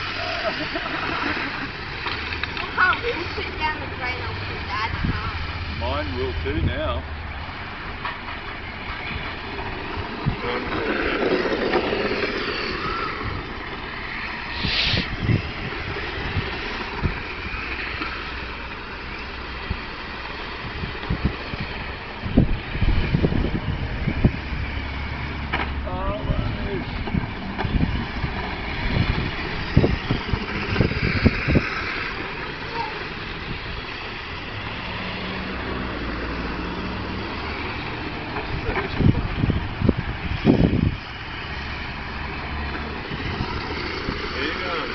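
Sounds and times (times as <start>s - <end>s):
remote control car motors whining: 0.0s - 5.9s, 8.7s - 42.4s
low engine-like hum: 0.0s - 44.9s.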